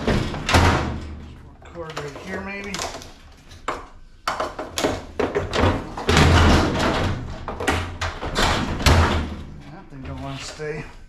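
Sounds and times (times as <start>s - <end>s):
metal and plastic parts clattering: 0.0s - 11.0s.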